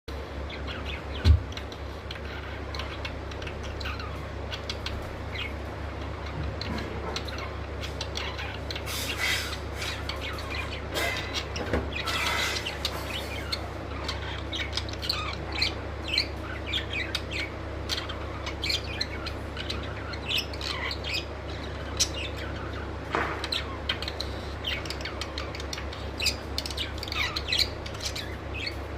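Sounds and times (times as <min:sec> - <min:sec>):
steady low hum: 0:00.1 - 0:28.9
budgerigars chirping: 0:00.5 - 0:28.9.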